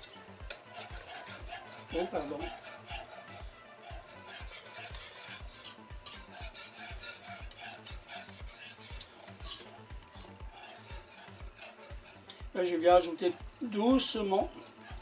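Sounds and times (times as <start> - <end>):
whisk scraping a metal pot: 0.0 - 15.0.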